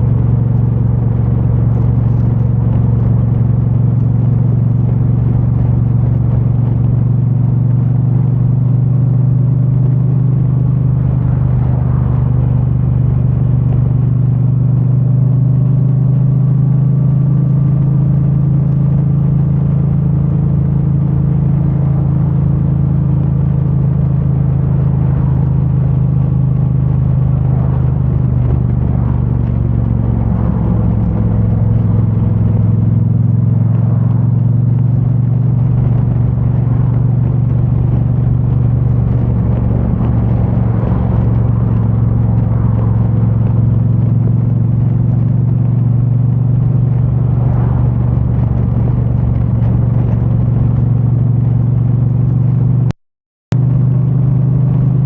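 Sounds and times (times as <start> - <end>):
muffled motorcycle engine cruising: 0.0 - 55.0.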